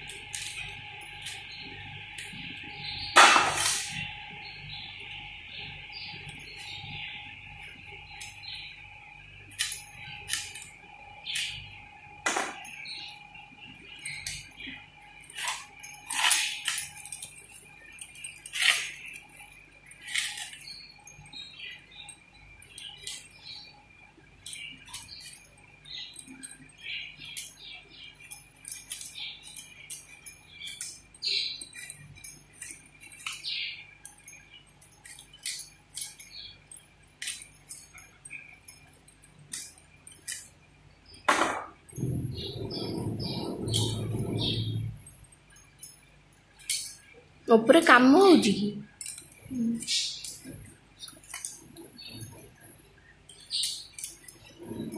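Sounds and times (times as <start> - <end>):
glass bangles clinking: 0.0 - 4.8, 5.9 - 54.9.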